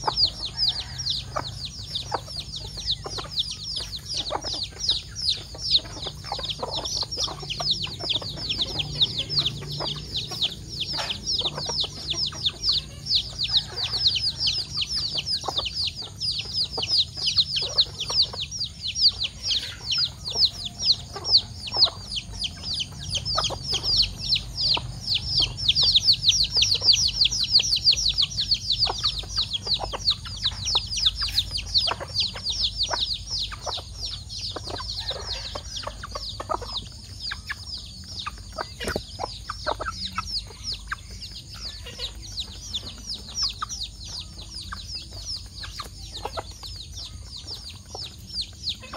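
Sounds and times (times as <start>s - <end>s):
chicks peeping: 0.0s - 48.9s
hen clucking: 0.0s - 48.9s.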